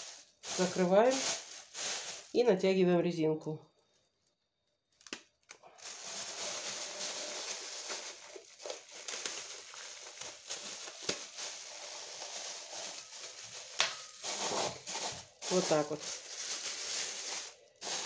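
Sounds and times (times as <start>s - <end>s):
cellophane bag crinkling: 0.0s - 2.6s, 4.0s - 18.0s.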